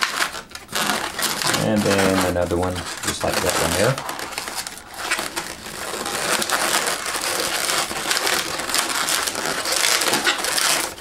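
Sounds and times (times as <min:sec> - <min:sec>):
balloon rubbing and creaking: 0:00.0 - 0:11.0.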